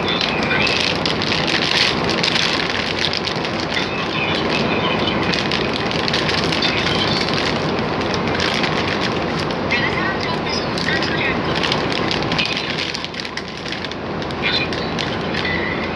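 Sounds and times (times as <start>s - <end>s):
loud steady rushing noise: 0.0s - 15.9s
plastic bags crinkling: 0.0s - 15.9s.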